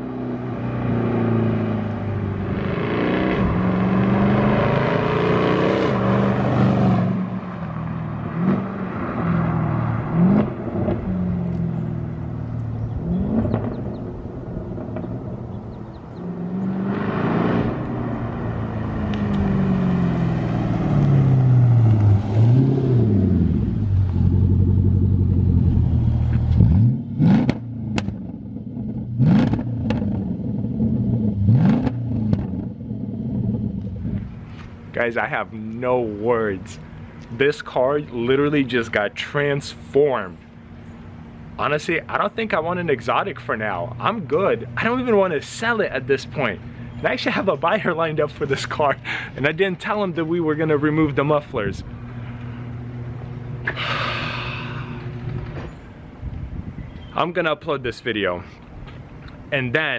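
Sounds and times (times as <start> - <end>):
car engine accelerating: 0.0 - 35.0, 43.4 - 57.1
exhaust cracks: 7.6 - 39.0, 41.6 - 59.9.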